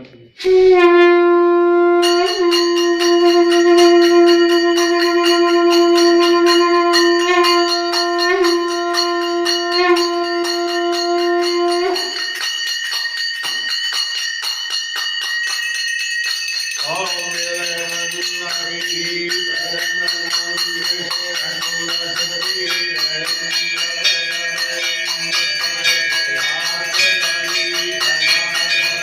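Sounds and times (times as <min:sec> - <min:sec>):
conch shell blown: 0:00.4 - 0:12.6, 0:16.8 - 0:29.0
bells rung rapidly: 0:02.0 - 0:29.0.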